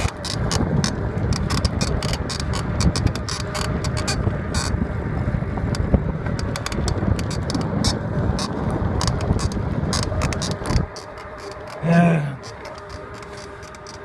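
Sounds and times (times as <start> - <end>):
low rumble of bike riding: 0.0 - 14.0.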